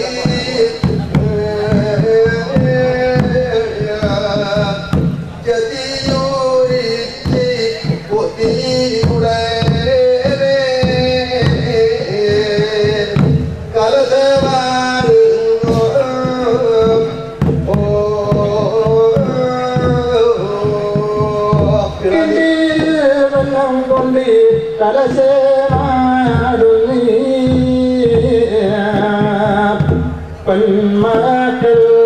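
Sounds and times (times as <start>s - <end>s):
drumming: 0.0s - 32.0s.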